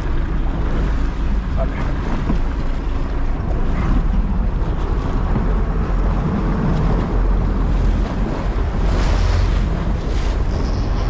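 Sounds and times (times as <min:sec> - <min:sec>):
boat engine rumble: 0:00.0 - 0:11.0
water wash: 0:00.0 - 0:11.0
wind buffeting microphone: 0:00.0 - 0:11.0.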